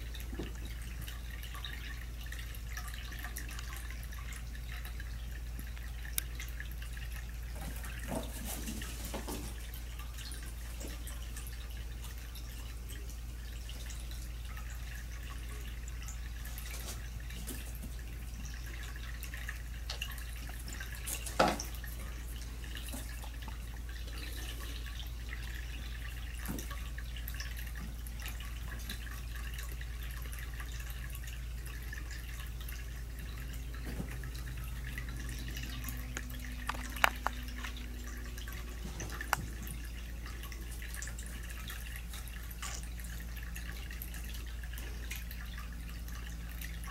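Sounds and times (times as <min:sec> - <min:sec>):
room noise hum: 0:00.0 - 0:46.9.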